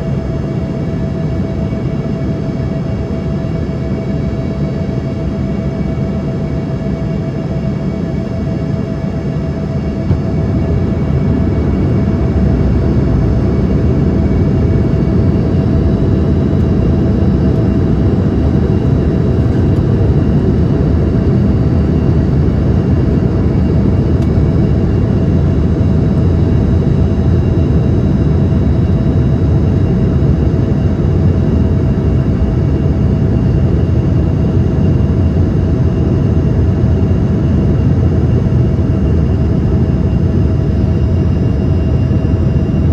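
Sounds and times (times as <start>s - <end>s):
airplane cabin engine rumble: 0.0s - 42.9s
turbofan whine: 0.0s - 42.9s.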